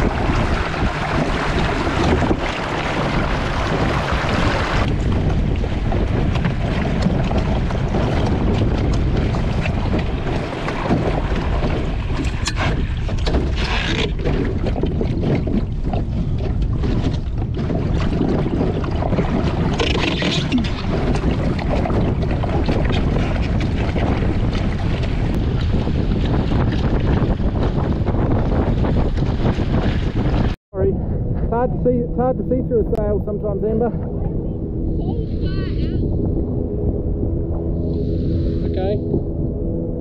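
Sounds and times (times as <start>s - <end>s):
water rushing along hull: 0.0s - 40.0s
wind buffeting microphone: 0.0s - 40.0s.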